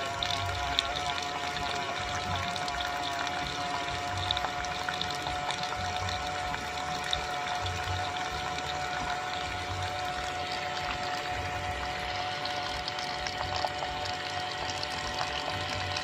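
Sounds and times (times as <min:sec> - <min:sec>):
small motor whine: 0:00.0 - 0:16.0
water pouring and splashing: 0:00.0 - 0:16.0.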